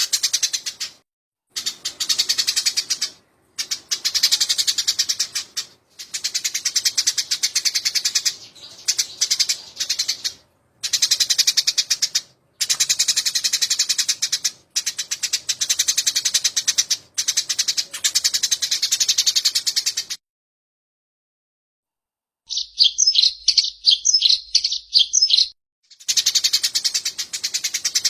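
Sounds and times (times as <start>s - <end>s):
sparrows chattering: 0.0s - 20.2s, 22.5s - 28.0s.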